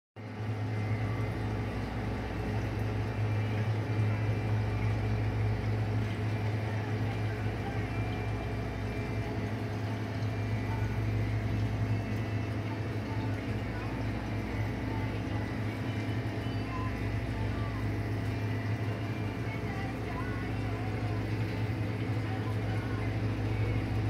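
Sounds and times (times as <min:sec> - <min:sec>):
steady low hum: 0:00.2 - 0:24.0.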